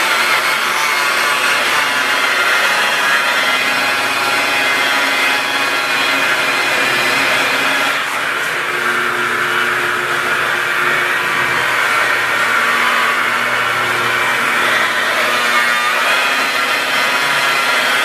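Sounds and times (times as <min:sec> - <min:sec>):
electric car polisher running: 0:00.0 - 0:18.0.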